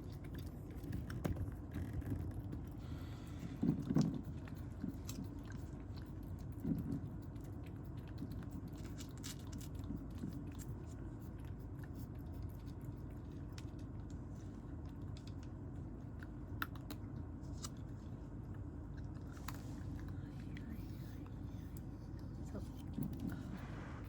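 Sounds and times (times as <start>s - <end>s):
cat crunching dry kibble: 0.0s - 23.6s.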